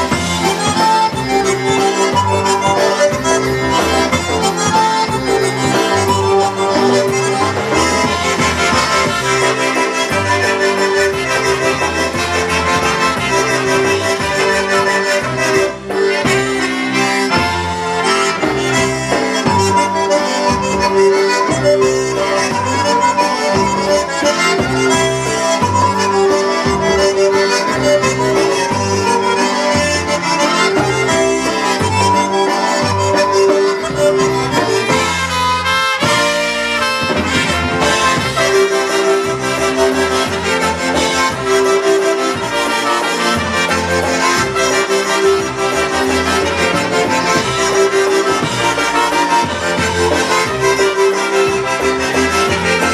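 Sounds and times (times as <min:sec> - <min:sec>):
accordion melody: 0:00.0 - 0:52.9
polka band playing: 0:00.0 - 0:52.9.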